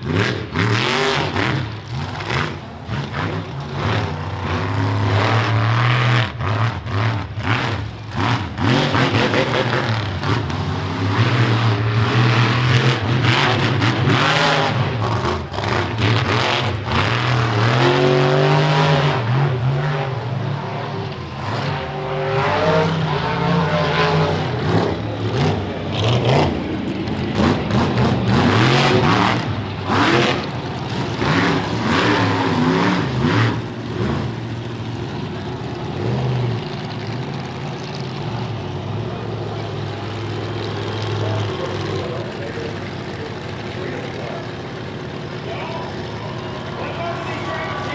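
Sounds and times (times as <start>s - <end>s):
truck engine revving: 0.0s - 47.9s.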